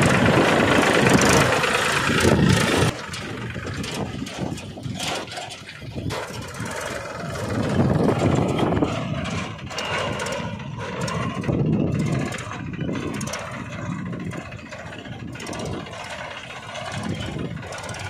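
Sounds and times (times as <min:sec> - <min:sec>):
small tractor engine running: 0:00.0 - 0:18.0.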